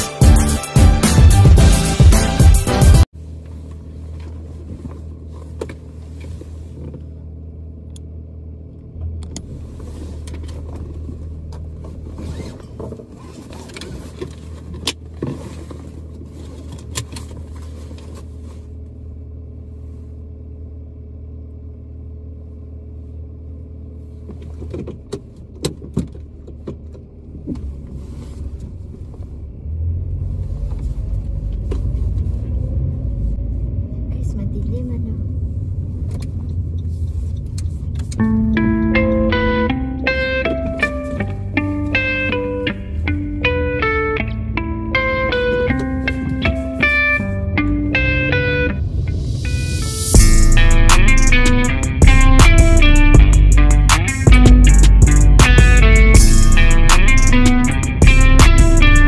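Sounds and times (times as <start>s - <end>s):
car engine humming: 0.0s - 59.0s.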